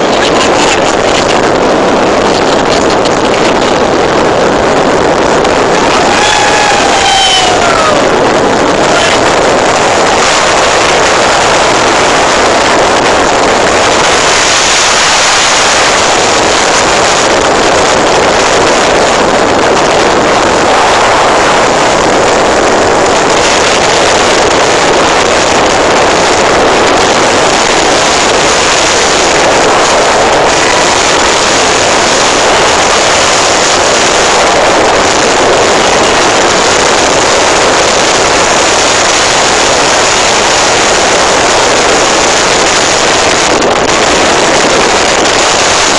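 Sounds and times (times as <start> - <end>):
rough sea: 0.0 - 45.9
wind rushing: 0.0 - 45.9.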